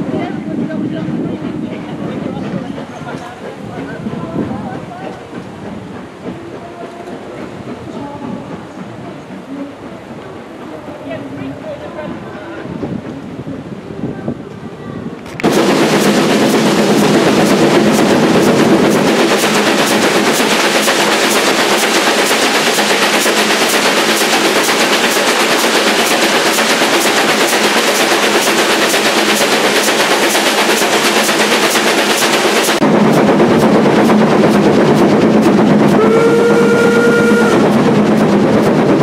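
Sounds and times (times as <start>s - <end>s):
rushing wind and running noise: 0.0s - 6.6s, 11.4s - 39.0s
steam locomotive exhaust beats: 0.0s - 14.1s, 15.3s - 39.0s.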